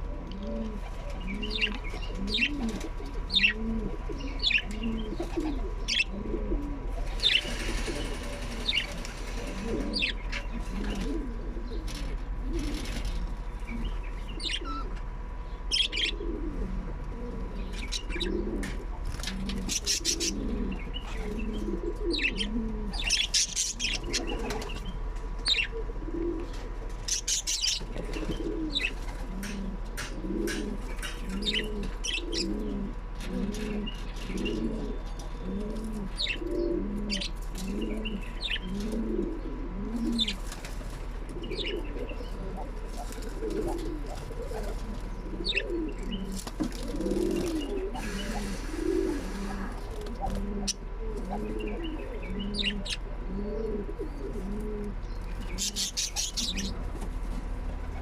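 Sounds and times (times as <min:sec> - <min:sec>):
dove cooing: 0:00.0 - 0:58.0
faint electrical hum: 0:00.0 - 0:58.0.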